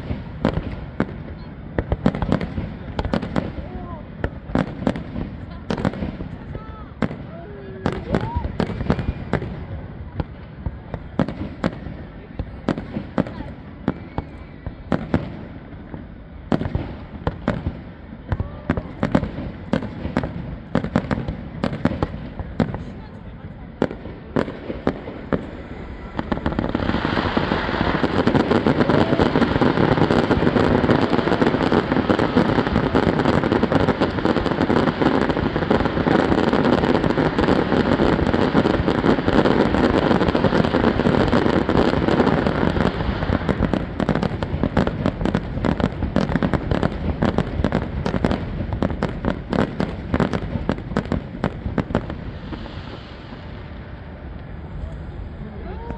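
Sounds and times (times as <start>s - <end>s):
fireworks bursts and crackling pops: 0.0s - 55.9s.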